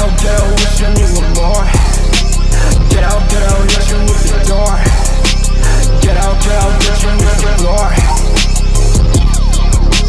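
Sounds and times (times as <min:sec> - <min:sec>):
hip hop beat: 0:00.0 - 0:10.0.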